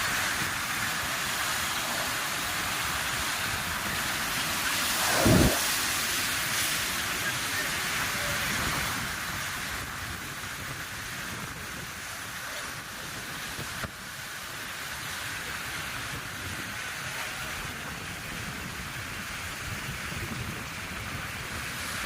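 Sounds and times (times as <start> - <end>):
sea surf on rocks: 0.0 - 22.0
wind: 0.0 - 22.0.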